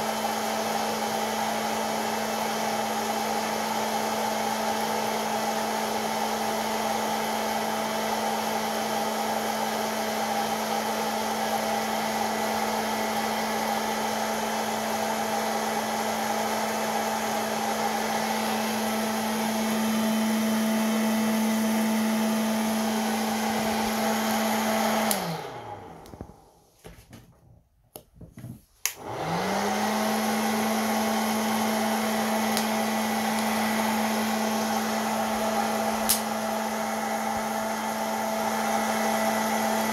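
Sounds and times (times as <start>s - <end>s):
popcorn maker fan motor: 0.0s - 26.5s, 28.9s - 39.9s.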